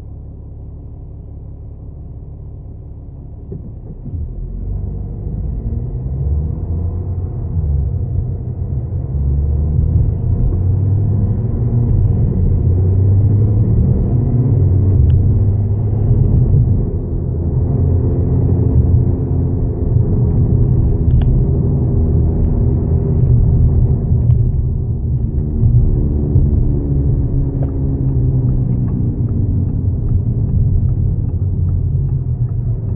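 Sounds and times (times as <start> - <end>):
car rumbling drone while driving: 0.0 - 32.9.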